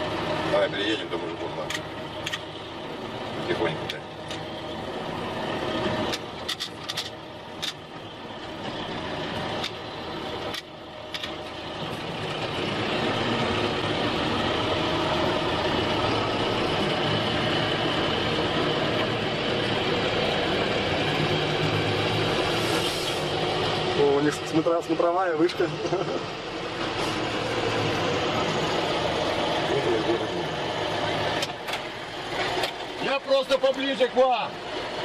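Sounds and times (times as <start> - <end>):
vehicle engine on rough ground: 0.0 - 35.0.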